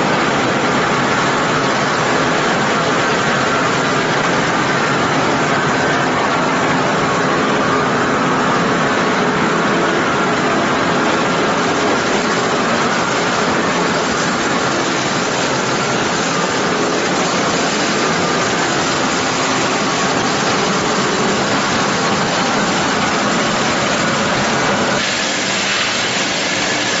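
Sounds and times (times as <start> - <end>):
machine hums: 0.0 - 27.0
machinery din: 0.0 - 27.0.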